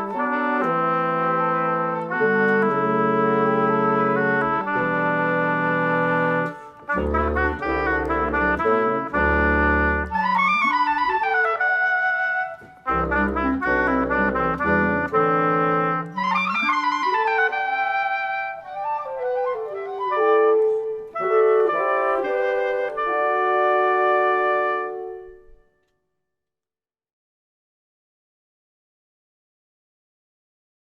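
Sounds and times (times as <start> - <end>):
woodwind quintet playing: 0.0 - 25.7.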